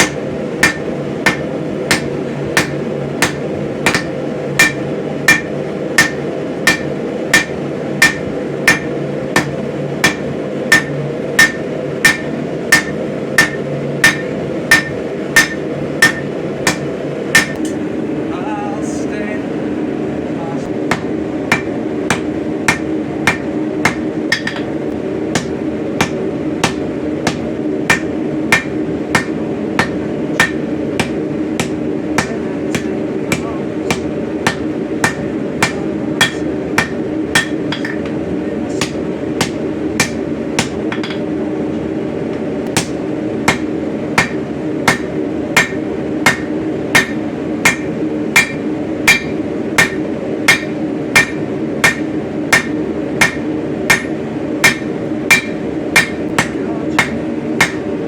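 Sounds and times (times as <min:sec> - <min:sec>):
hammer striking steel on anvil: 0:00.0 - 0:17.8, 0:20.9 - 0:41.3, 0:42.7 - 0:57.9
steady hum: 0:00.0 - 0:58.0.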